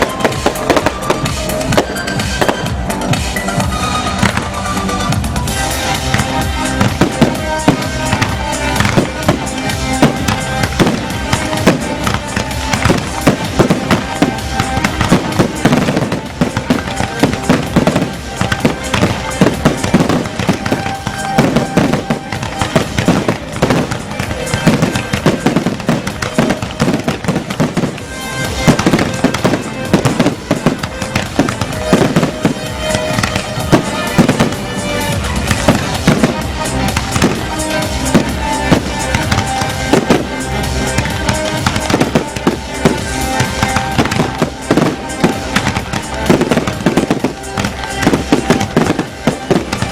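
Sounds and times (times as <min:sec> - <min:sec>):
fireworks crackling and banging: 0:00.0 - 0:49.9
loud music: 0:00.0 - 0:49.9.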